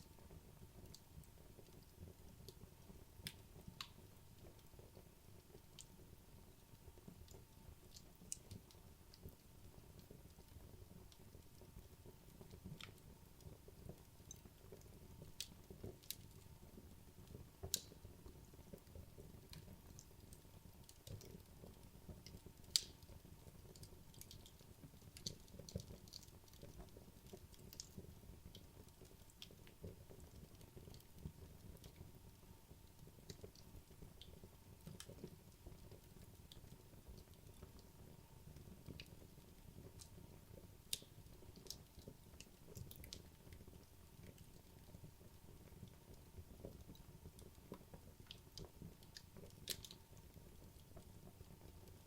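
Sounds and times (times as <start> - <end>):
wood fire crackling: 0.0 - 52.0
fire popping and snapping: 0.2 - 52.0.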